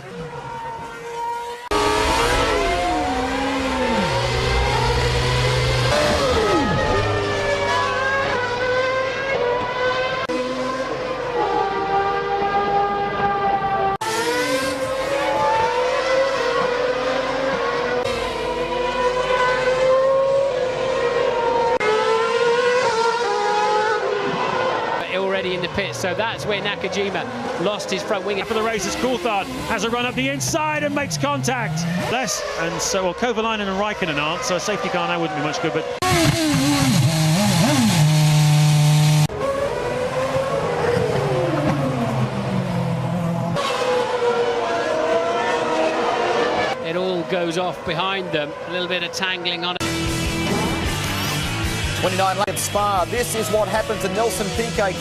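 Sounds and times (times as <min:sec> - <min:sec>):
racing car engines revving: 0:00.0 - 0:55.0.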